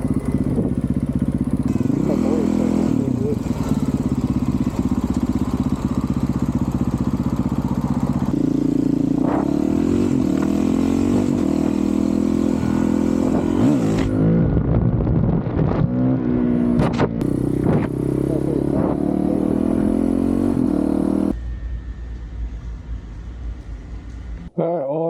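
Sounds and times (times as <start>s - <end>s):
motorcycle engine revving: 0.0s - 21.4s.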